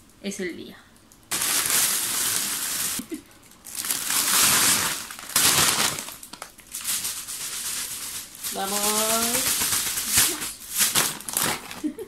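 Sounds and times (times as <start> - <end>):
plastic bag crinkling and rustling: 1.2 - 12.0.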